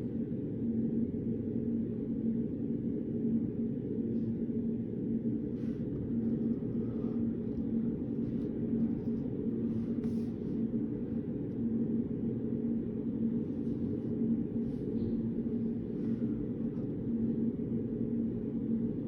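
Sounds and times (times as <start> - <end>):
faint steady drone: 0.0 - 19.0
low room hum: 0.0 - 19.0.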